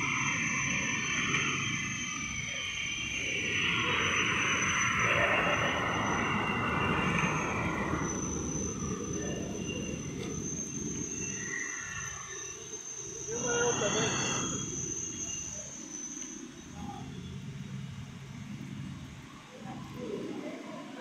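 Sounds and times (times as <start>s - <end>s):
heavy vehicle engines rumbling: 0.0s - 20.9s
rush of noise: 0.0s - 21.0s
thin high whine: 0.0s - 21.0s.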